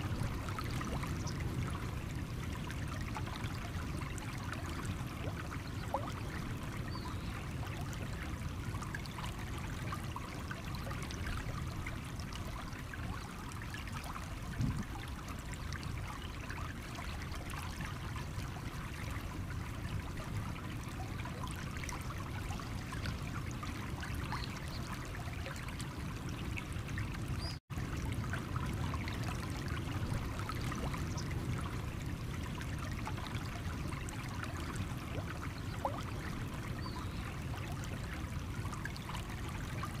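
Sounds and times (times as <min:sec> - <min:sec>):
small water splashes: 0:00.0 - 0:40.0.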